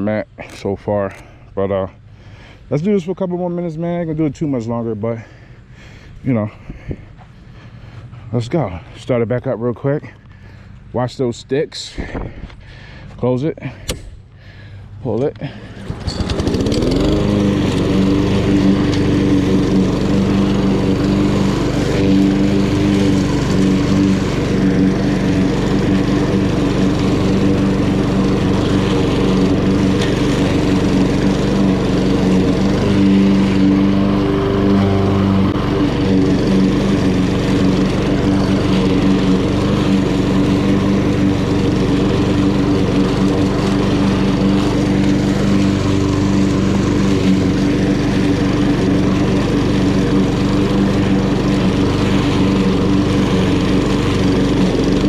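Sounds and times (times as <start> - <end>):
lawn mower engine running: 2.0 - 55.0.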